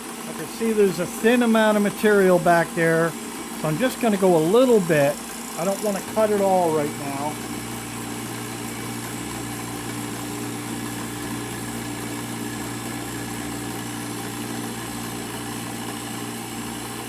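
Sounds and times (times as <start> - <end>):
milling machine humming: 0.0 - 17.0.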